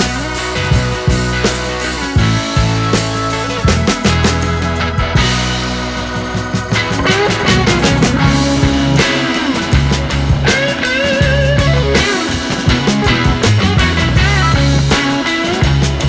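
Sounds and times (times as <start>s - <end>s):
bass: 0.0s - 16.0s
electric guitar: 0.0s - 16.0s
steady drum beat: 0.0s - 16.0s
upbeat rock music: 0.0s - 16.0s.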